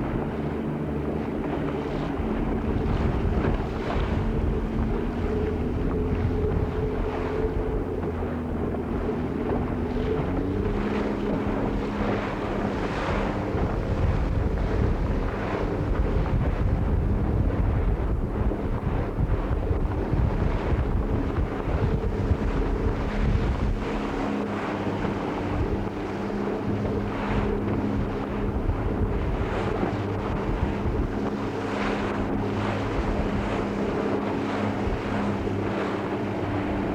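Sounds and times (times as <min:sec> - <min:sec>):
water noise: 0:00.0 - 0:36.9
wind buffeting microphone: 0:00.0 - 0:36.9.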